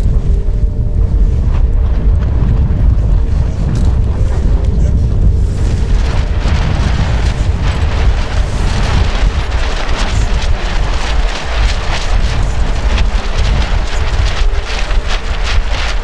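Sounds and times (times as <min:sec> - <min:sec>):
water splashing along hull: 0:00.0 - 0:16.0
wind buffeting microphone: 0:00.0 - 0:16.0.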